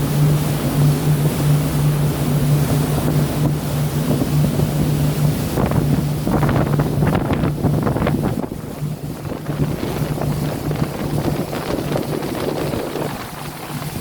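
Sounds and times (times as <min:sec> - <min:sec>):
low motor hum: 0:00.0 - 0:14.0
sea noise: 0:00.0 - 0:14.0
water splashing: 0:00.0 - 0:14.0
wind noise: 0:00.0 - 0:14.0.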